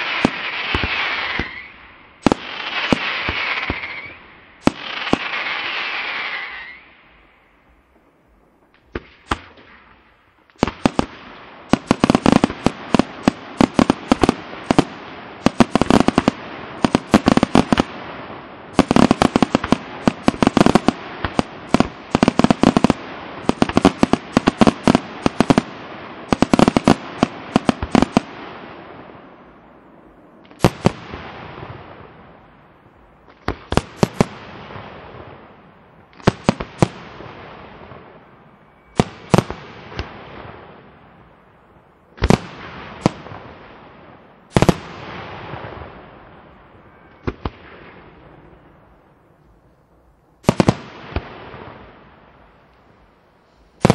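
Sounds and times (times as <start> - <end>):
fireworks bursting: 0.0 - 49.5, 50.4 - 53.9
fireworks crackle: 0.0 - 49.6, 50.4 - 53.9.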